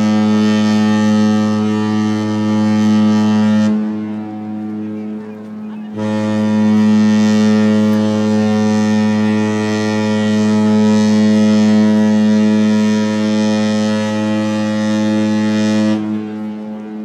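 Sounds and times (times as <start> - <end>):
deep ship horn blast: 0.0 - 17.0.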